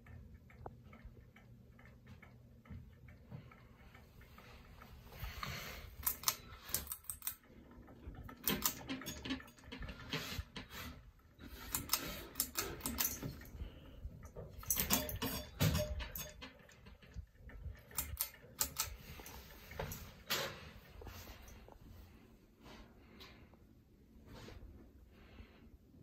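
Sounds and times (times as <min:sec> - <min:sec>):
ceiling fan clicking and rattling: 0:00.0 - 0:23.7.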